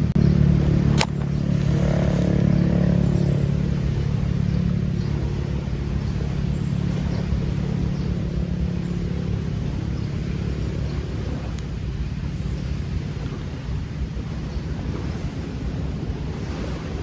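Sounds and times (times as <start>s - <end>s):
distant engine humming: 0.0s - 17.0s.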